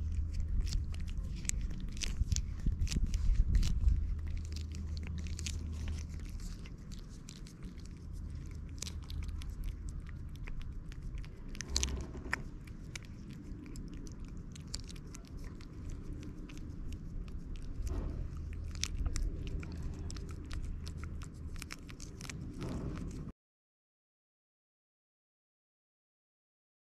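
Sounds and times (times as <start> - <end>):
cat licking and lapping: 0.0 - 23.3.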